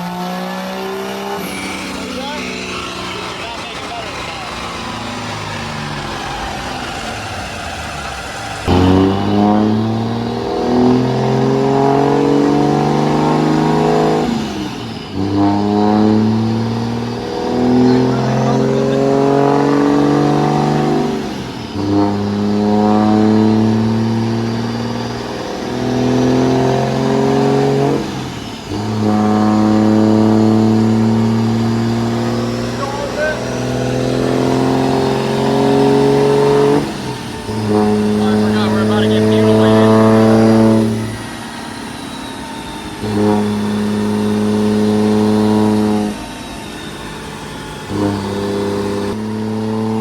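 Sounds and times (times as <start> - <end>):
diesel truck engine running hard: 0.0 - 50.0.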